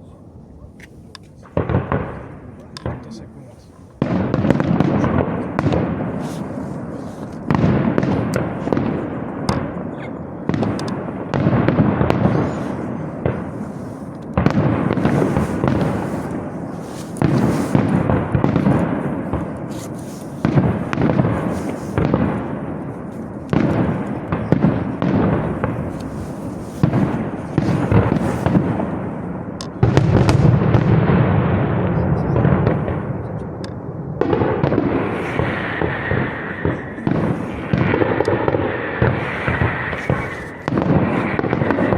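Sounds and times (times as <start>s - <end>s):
fireworks shells bursting: 0.8s - 31.4s, 32.3s - 41.9s.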